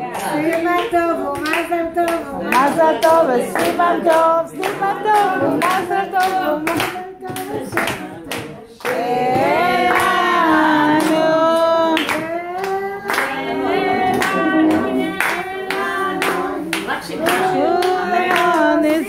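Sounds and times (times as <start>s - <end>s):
hand clapping: 0.0s - 19.0s
people singing together: 0.0s - 19.0s.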